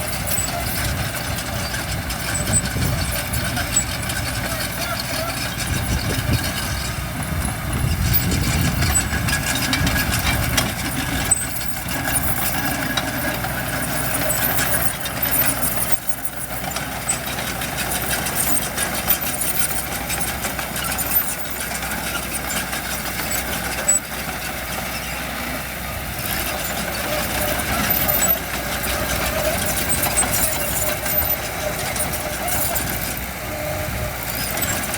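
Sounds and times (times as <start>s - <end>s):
heavy machinery diesel engines: 0.0s - 34.9s.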